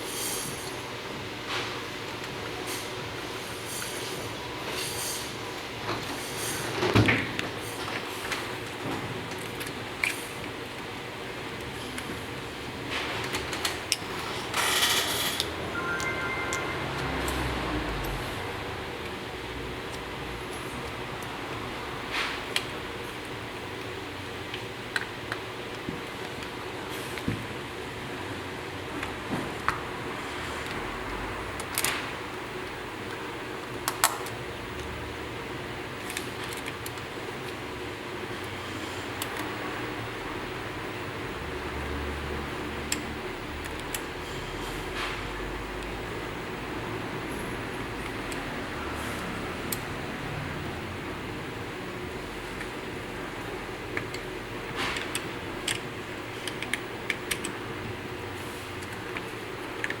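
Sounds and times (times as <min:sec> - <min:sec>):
steady fan-like hum: 0:00.0 - 1:00.0.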